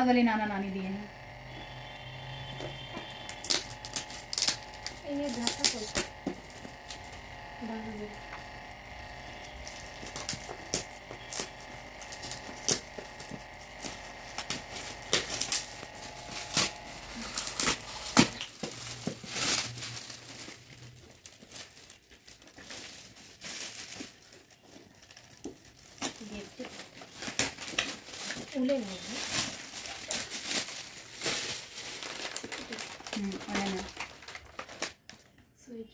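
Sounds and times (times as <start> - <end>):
gift wrap crinkling: 0.0 - 35.4.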